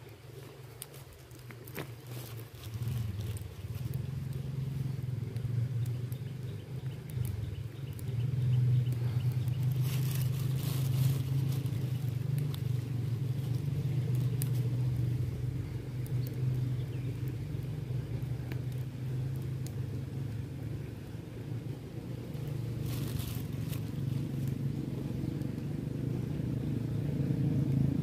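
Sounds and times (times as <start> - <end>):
low steady engine hum: 0.0 - 28.0.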